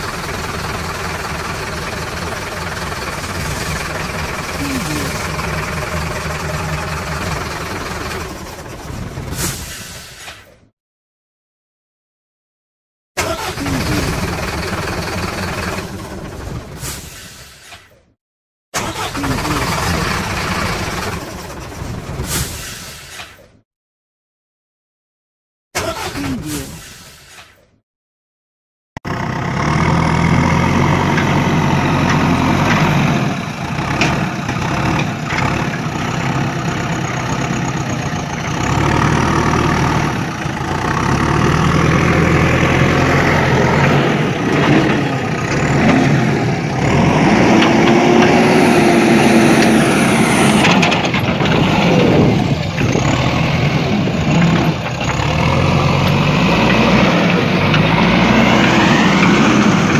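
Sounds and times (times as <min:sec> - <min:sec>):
heavy vehicle engine running: 0:00.0 - 0:10.3, 0:13.4 - 0:17.8, 0:18.8 - 0:22.4, 0:29.0 - 0:59.9.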